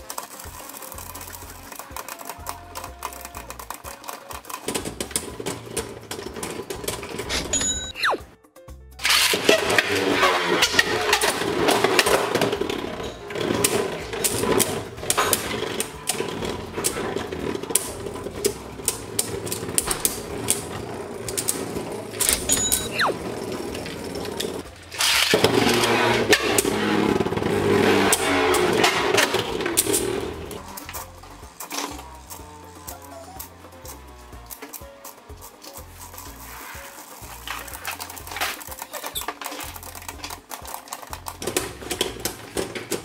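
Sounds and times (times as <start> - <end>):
spinning tops clicking and colliding: 0.0 - 8.3, 9.0 - 43.0
spinning tops rattling whir: 0.0 - 8.4, 9.0 - 43.0.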